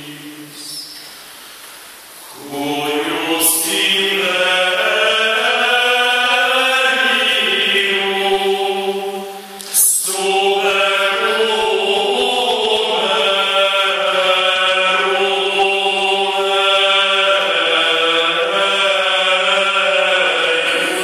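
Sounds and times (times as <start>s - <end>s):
male choir singing a cappella: 2.3s - 21.0s.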